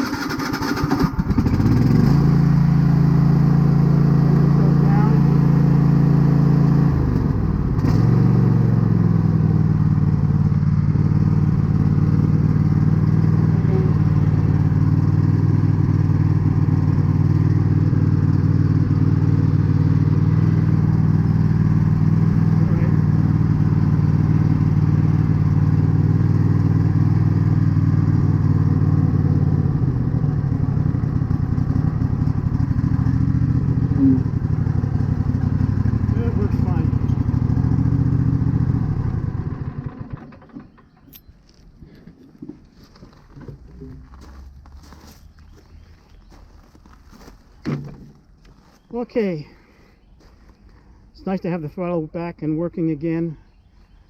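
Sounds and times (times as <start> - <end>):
garden tractor engine running: 0.0 - 53.4.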